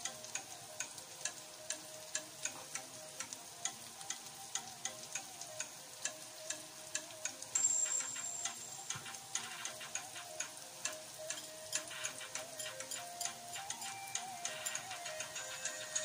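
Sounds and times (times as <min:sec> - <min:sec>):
stir-fry sizzling in a pan: 0:00.0 - 0:16.0.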